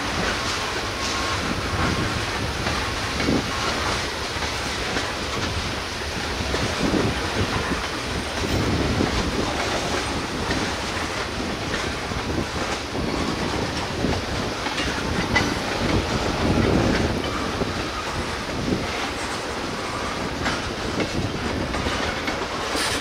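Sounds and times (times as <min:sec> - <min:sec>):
freight train rumble: 0:00.0 - 0:23.0
train wheels clicking over rail joints: 0:00.0 - 0:23.0.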